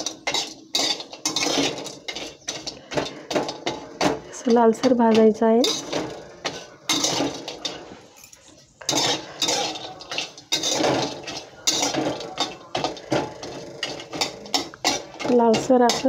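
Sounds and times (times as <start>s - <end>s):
metal spatula scraping a pan: 0.0s - 16.0s.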